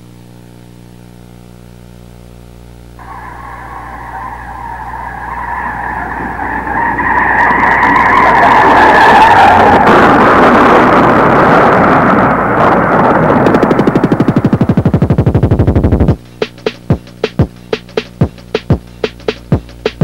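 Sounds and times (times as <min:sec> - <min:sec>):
hissing electronic noise wash: 0:00.0 - 0:19.9
fast pulsing throb: 0:03.0 - 0:20.0.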